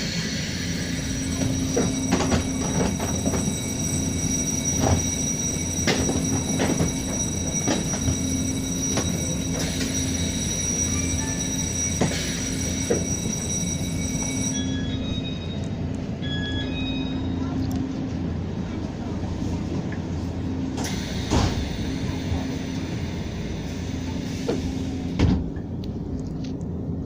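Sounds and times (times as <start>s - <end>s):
train low hum: 0.0s - 27.0s.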